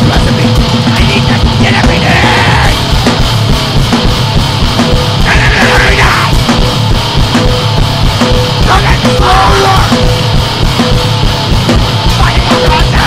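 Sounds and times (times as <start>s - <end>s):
distorted fast band playing: 0.0s - 13.0s
drumming: 0.0s - 13.0s.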